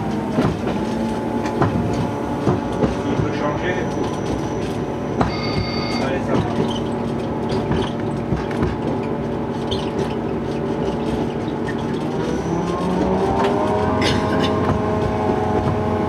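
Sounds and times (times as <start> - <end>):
diesel railcar engine running: 0.0 - 16.0.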